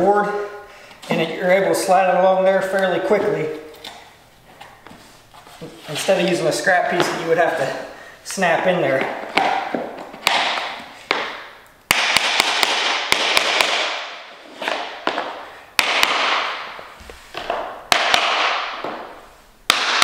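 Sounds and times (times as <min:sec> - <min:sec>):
noisy hiss: 0:00.0 - 0:20.0.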